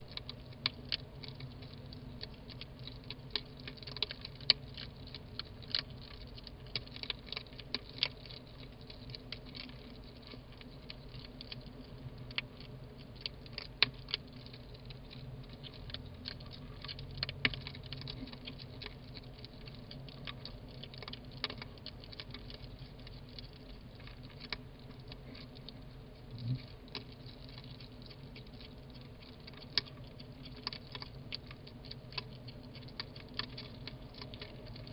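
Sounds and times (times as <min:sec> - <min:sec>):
hedgehogs crunching and chewing: 0:00.0 - 0:34.9
steady low hum: 0:00.0 - 0:34.9.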